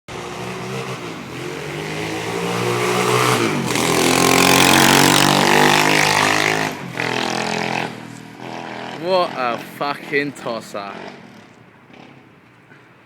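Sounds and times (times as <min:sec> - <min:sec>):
motorbike engine revving: 0:00.1 - 0:12.5.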